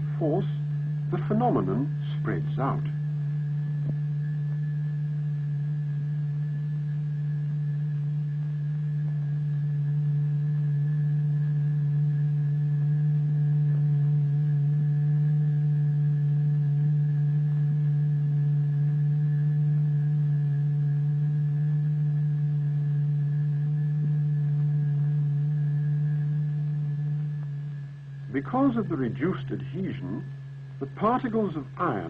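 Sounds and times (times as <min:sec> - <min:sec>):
steady low pure tone: 0:00.0 - 0:32.0.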